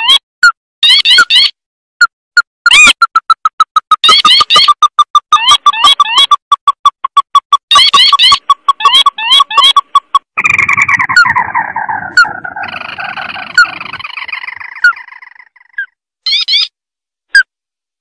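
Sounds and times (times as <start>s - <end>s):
recorded crake call: 0.0s - 16.7s.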